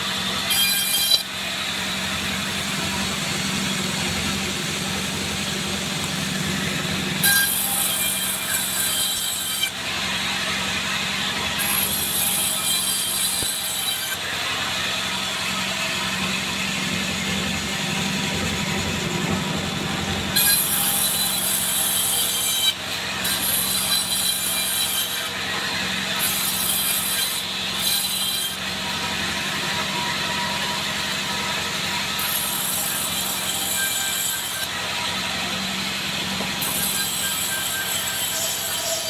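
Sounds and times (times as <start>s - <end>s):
sawmill motor hum: 0.0s - 33.7s.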